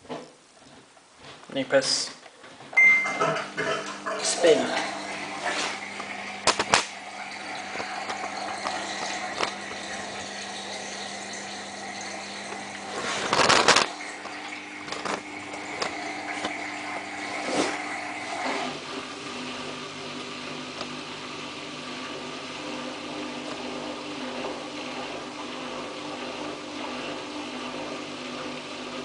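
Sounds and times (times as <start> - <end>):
washing machine humming: 2.5 - 29.0.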